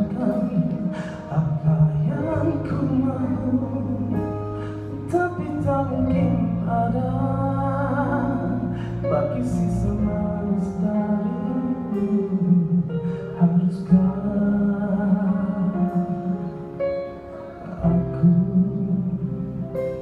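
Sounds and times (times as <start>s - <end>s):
person singing: 0.0s - 20.0s
slow song with band: 0.0s - 20.0s.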